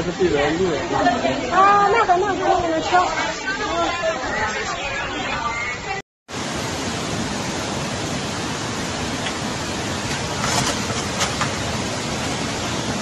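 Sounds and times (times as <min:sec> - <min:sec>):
floodwater rushing: 0:00.0 - 0:04.8, 0:06.3 - 0:13.0.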